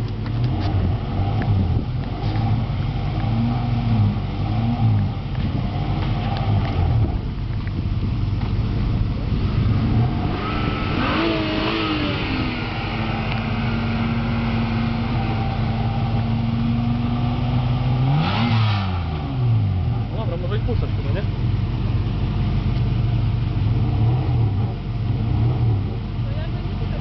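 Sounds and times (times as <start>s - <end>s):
car accelerating hard: 0.0s - 7.3s, 8.4s - 21.3s, 23.7s - 26.1s
car engines revving: 0.0s - 27.0s.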